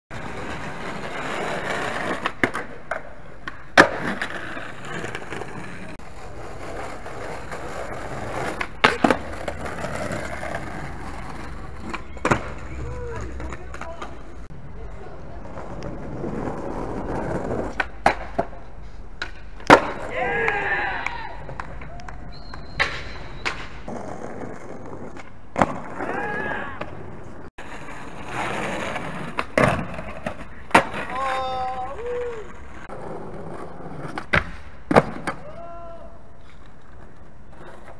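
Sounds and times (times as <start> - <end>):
skateboard wheels rolling on concrete: 0.1 - 37.9
skateboard clacking on ground: 0.2 - 35.7.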